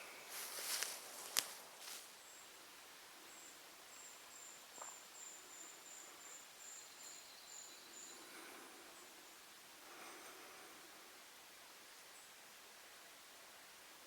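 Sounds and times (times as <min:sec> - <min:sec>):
quiet outdoor ambience: 0:00.0 - 0:14.0.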